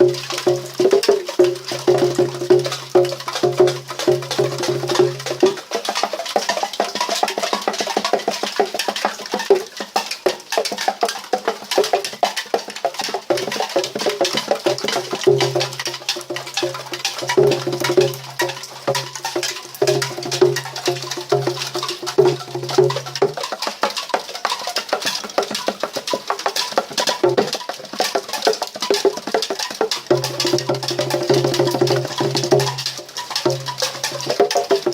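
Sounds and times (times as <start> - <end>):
raindrops tapping on a metal can: 0.0 - 34.9.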